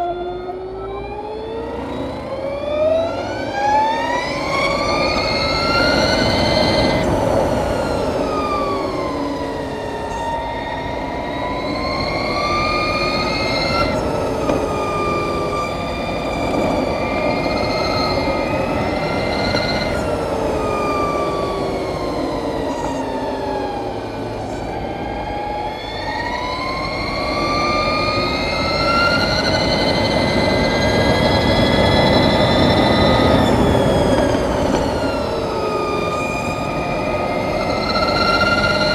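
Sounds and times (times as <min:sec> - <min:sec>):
electric motorcycle drivetrain whine: 0:00.0 - 0:38.9
wind and tyre rush: 0:00.0 - 0:38.9.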